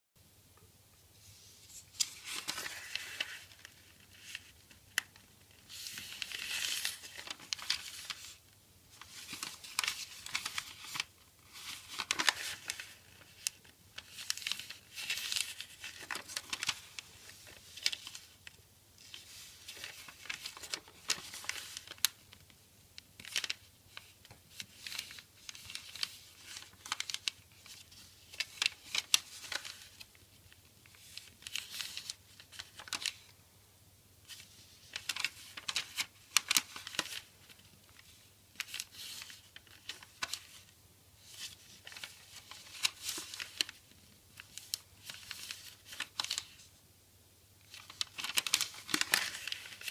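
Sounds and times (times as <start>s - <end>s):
paper rustling and crinkling: 1.2s - 33.4s, 34.2s - 46.8s, 47.6s - 49.9s
paper fold snaps: 1.6s - 8.4s, 9.0s - 18.3s, 19.0s - 30.2s, 34.3s - 43.8s, 44.4s - 46.6s, 47.6s - 49.9s.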